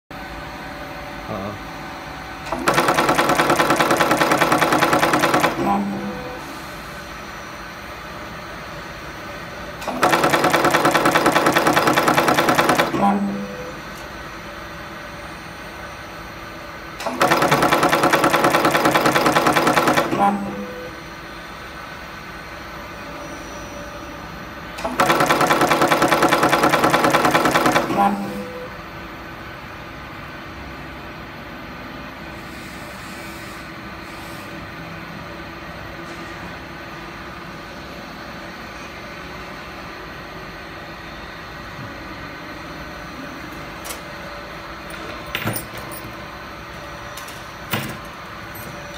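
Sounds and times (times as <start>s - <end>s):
machinery humming: 0.1s - 48.9s.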